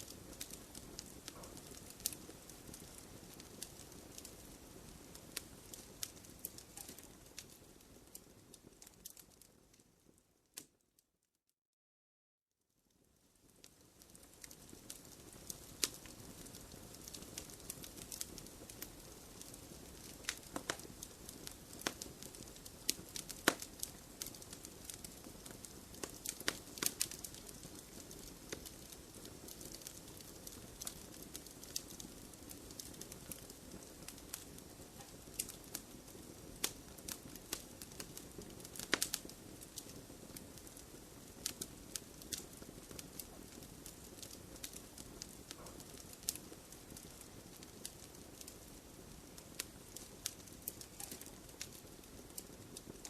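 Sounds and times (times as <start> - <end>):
wood fire crackling: 0.0 - 10.8, 12.9 - 53.0.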